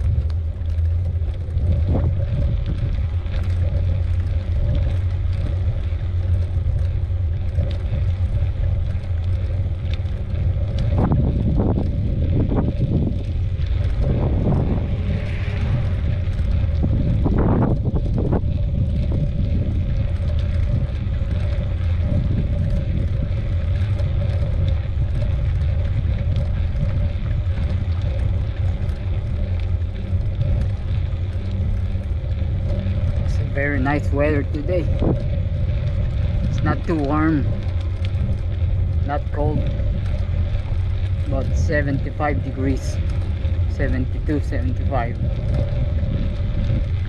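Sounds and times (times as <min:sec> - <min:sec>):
bike tyre noise on trail: 0:00.0 - 0:47.0
wind rumbling on microphone: 0:00.0 - 0:47.0.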